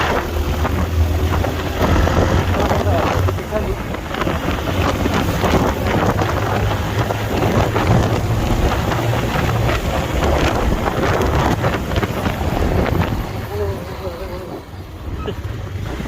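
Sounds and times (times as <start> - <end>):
motorcycle engine drone: 0.0 - 16.0
wind buffeting microphone: 0.0 - 16.0.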